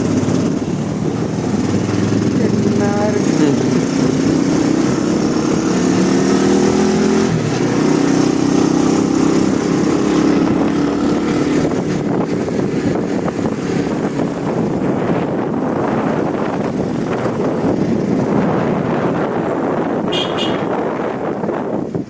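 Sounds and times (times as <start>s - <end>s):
vehicle engine humming: 0.0s - 22.0s
wind and road noise: 0.0s - 22.0s.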